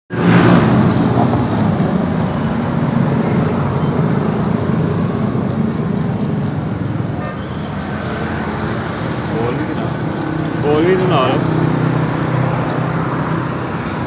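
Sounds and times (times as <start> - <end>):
market street noise: 0.1 - 14.0
road traffic: 0.1 - 14.0
vehicle engines running: 0.1 - 14.0.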